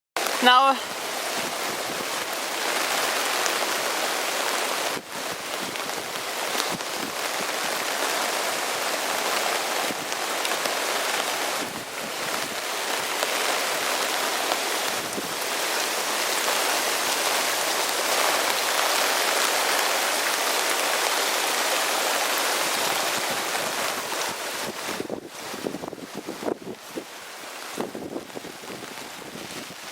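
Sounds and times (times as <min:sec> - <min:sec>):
floodwater rushing down road: 0:00.2 - 0:29.9
rain falling on water: 0:00.2 - 0:29.9.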